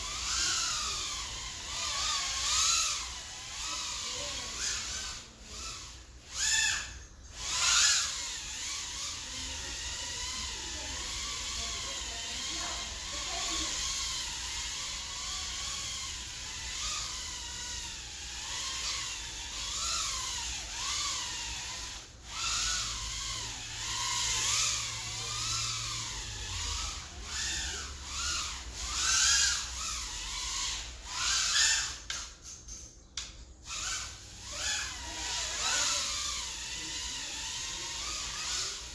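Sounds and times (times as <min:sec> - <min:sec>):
drone motors whining: 0:00.0 - 0:32.4, 0:33.3 - 0:38.9.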